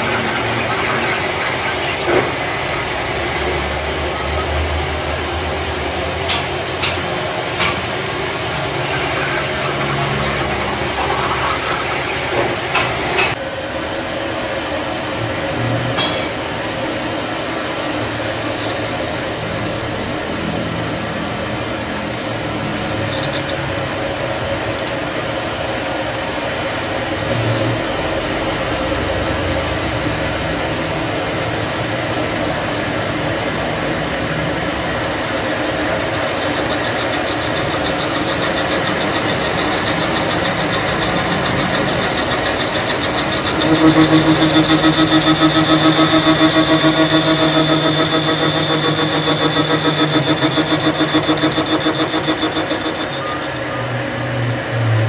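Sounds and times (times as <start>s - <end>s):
high-pitched whine: 0.0s - 55.0s
mechanical workshop noise: 0.0s - 55.0s.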